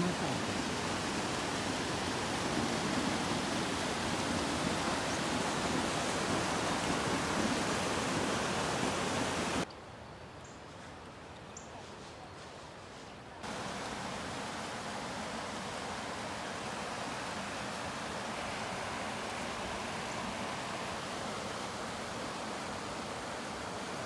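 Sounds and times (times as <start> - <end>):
waterfall rushing: 0.0 - 9.6, 13.4 - 24.0.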